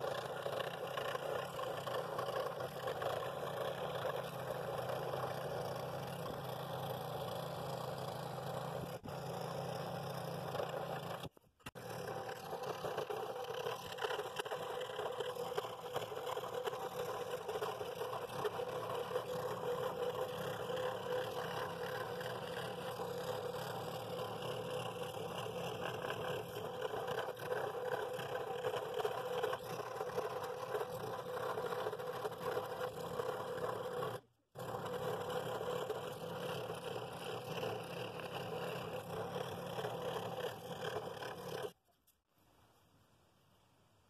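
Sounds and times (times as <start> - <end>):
scroll saw cutting wood: 0.0 - 41.8.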